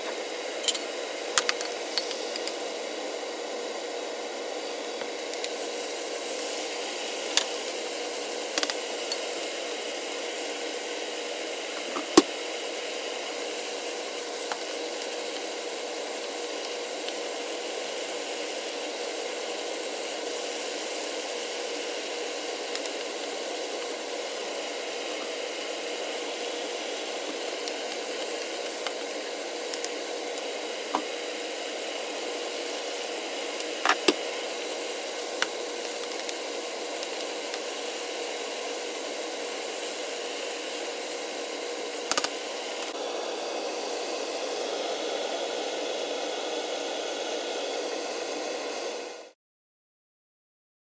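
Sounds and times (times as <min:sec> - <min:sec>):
food sizzling in a pan: 0:00.0 - 0:49.4.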